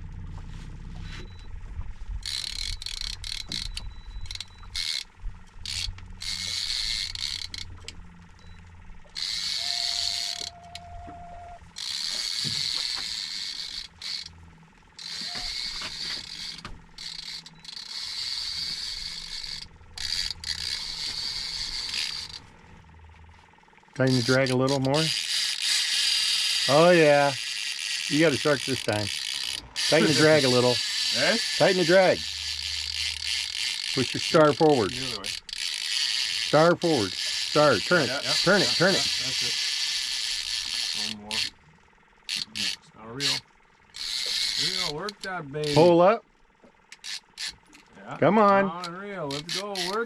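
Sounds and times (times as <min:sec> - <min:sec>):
fishing reel drag buzzing: 0:01.0 - 0:50.0.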